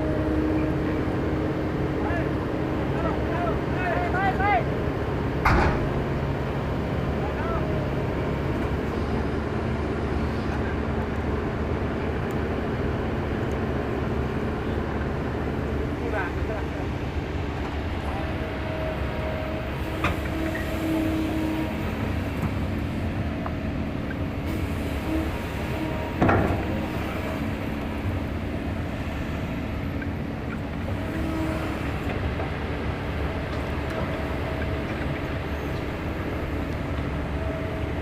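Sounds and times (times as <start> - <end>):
heavy diesel machinery rumbling: 0.0 - 38.0.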